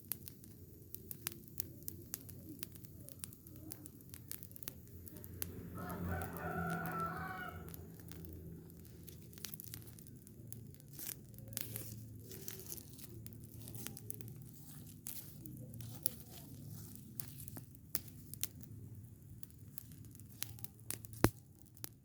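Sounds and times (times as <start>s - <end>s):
burning rubbish crackling: 0.0s - 22.0s
sharp pops and snaps: 0.0s - 22.0s.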